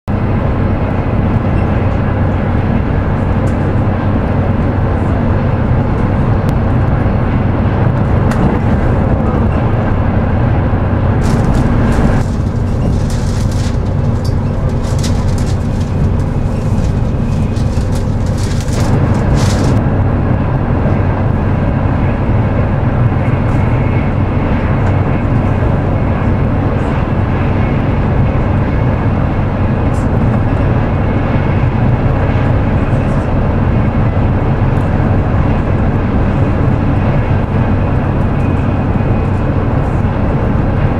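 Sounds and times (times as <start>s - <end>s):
train running noise rumble: 0.1s - 40.9s.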